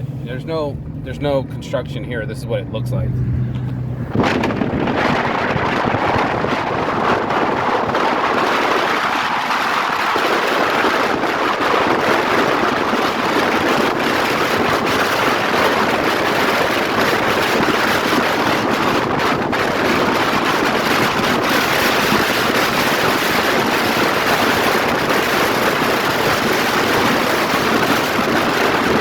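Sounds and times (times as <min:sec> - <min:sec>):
road and traffic noise: 0:00.0 - 0:29.0
wind noise on microphone: 0:02.2 - 0:29.0.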